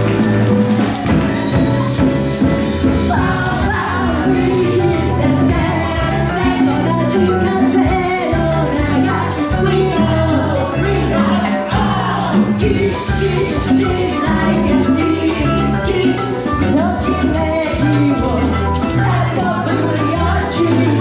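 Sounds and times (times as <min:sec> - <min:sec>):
live salsa band playing: 0:00.0 - 0:21.0.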